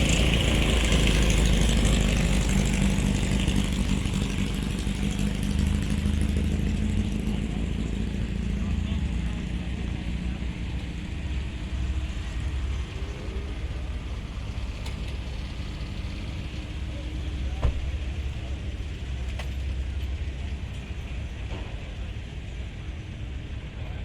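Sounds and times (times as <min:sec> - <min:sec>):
car engine rumbling: 0:00.0 - 0:24.0
outdoor noise: 0:00.0 - 0:24.0.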